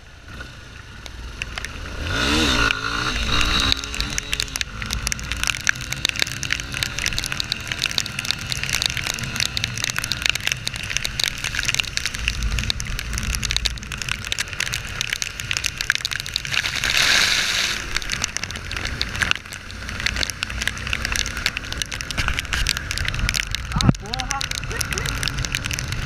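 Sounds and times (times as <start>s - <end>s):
heavy rain hitting camera: 0.0s - 26.0s
motorcycle engine: 0.0s - 26.0s
wind rumble: 0.0s - 26.0s.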